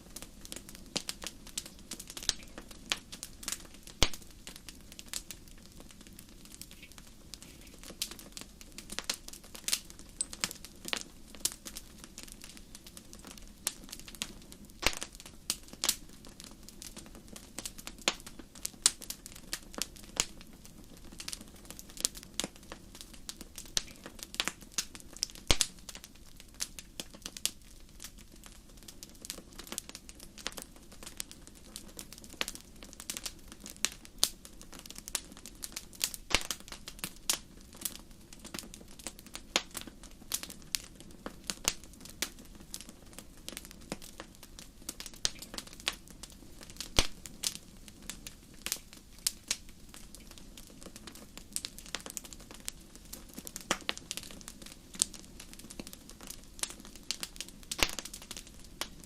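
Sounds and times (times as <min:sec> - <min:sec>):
campfire crackling and popping: 0:00.0 - 0:59.0
low rush of flames: 0:00.0 - 0:59.0.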